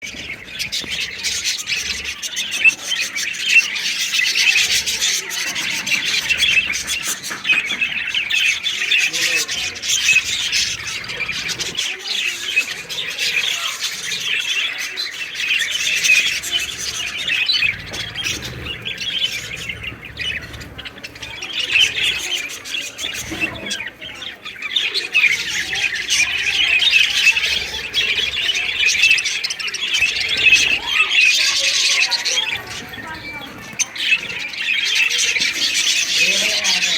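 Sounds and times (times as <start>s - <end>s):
cage birds chirping and squawking: 0.0s - 36.9s.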